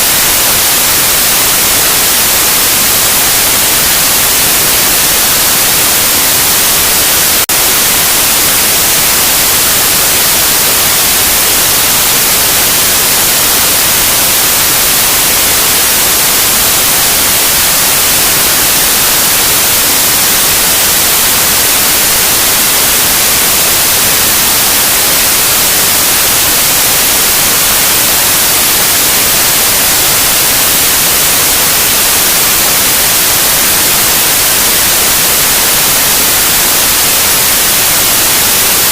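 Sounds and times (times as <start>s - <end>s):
loud white noise: 0.0s - 38.9s.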